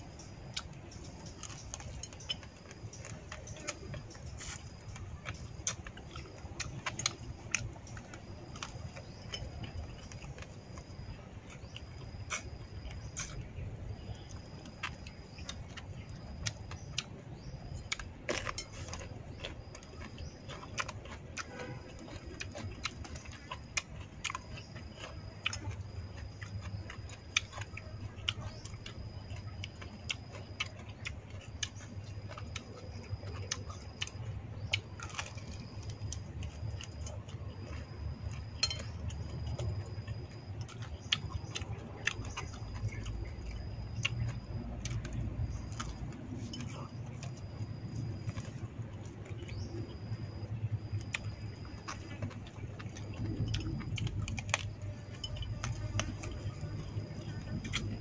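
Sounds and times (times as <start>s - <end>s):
chewing: 0.0s - 58.0s
low steady hum: 0.0s - 58.0s.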